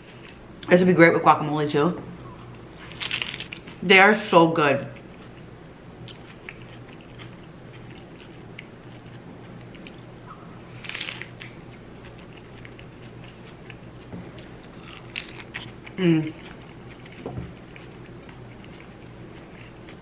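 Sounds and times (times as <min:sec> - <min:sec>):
chewing crispy fried food: 0:02.4 - 0:03.8, 0:04.9 - 0:20.0.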